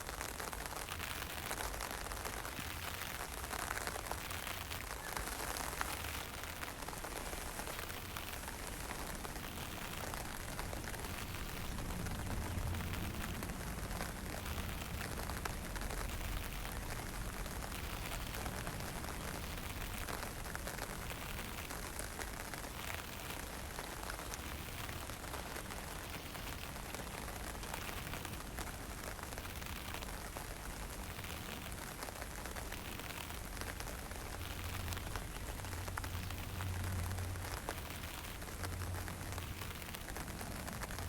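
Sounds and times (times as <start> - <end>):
light rain hissing: 0.0 - 41.0
low rumble of wind: 0.0 - 41.0.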